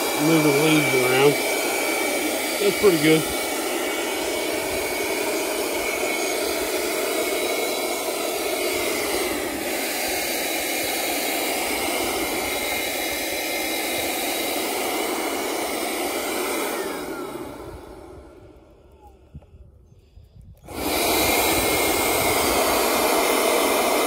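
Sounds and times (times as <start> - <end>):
leaf blower running: 0.0 - 19.7, 20.5 - 24.0.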